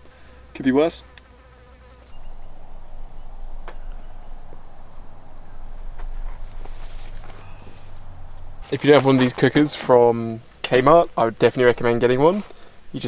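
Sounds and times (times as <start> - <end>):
insects chorus drone: 0.0 - 13.0.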